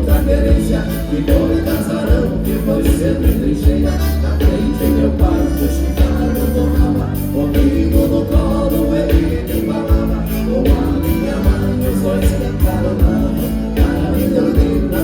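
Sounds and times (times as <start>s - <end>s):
accordion-led dance band music: 0.0s - 15.0s.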